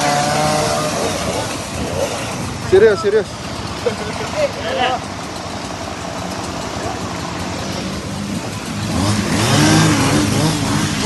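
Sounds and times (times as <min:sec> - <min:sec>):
road noise: 0:00.0 - 0:11.0
vehicle engine running: 0:00.0 - 0:11.0.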